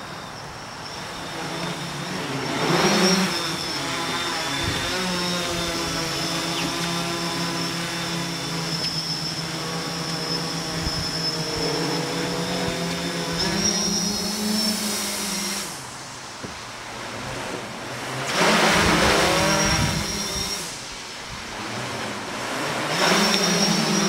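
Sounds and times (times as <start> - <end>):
drone propellers humming: 0.0 - 24.0
faint high whine: 0.0 - 24.0.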